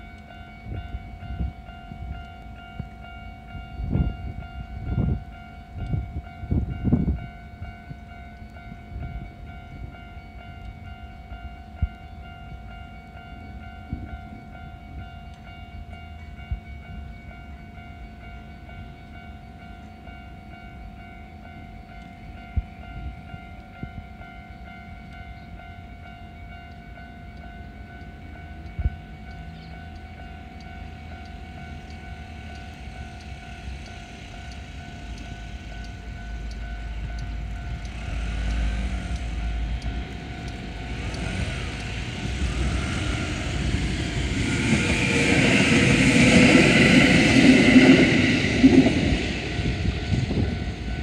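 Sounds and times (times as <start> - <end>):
railway crossing alarm ringing: 0.0 - 51.0
train passing with rail noise: 0.0 - 51.0.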